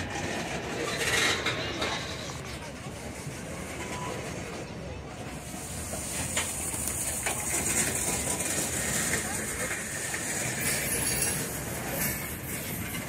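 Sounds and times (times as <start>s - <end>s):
train clanks: 0.0s - 13.0s
train wheels rumbling on rails: 0.0s - 13.0s.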